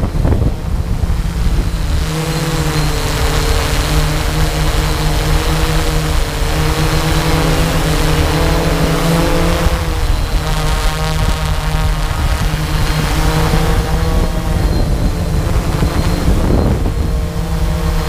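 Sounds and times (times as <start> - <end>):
higher whine: 0.0 - 18.0
small aircraft propellers humming: 0.0 - 18.0.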